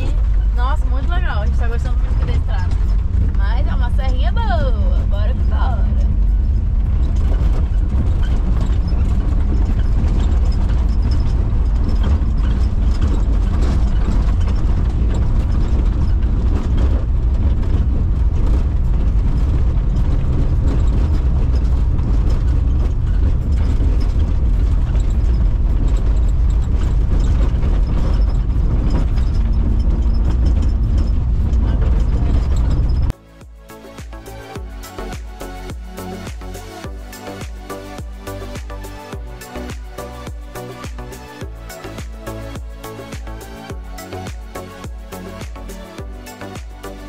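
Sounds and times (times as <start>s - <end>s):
rattling and clattering: 0.0s - 47.0s
van engine and road rumble: 0.0s - 47.0s.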